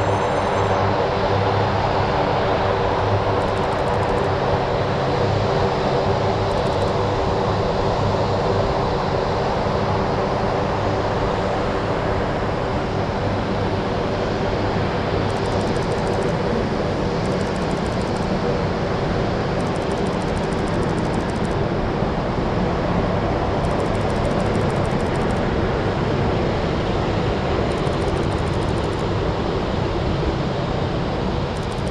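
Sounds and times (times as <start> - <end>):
jet engines running: 0.0 - 7.0, 11.0 - 31.9.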